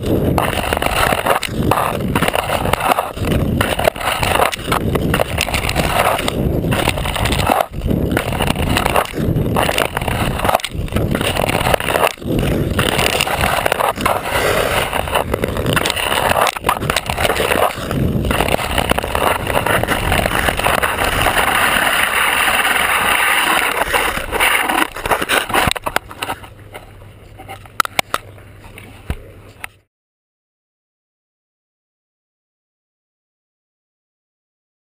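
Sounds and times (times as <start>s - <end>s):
ice skate blade scraping ice: 0.0s - 28.1s.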